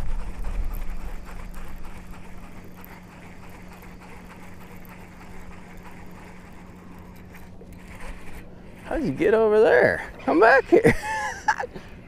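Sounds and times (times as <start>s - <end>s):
water: 0.0s - 11.7s
constant low hum: 0.0s - 12.0s
wind: 0.0s - 12.0s.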